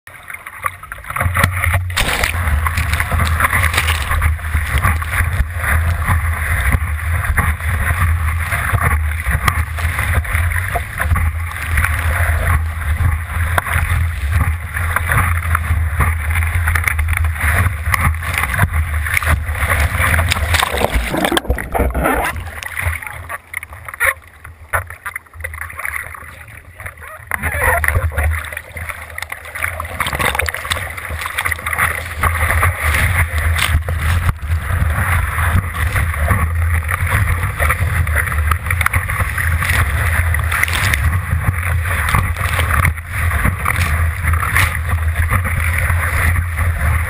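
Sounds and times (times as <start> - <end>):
water splashing against surfboard: 0.1 - 47.0
deep rumble: 0.7 - 47.0.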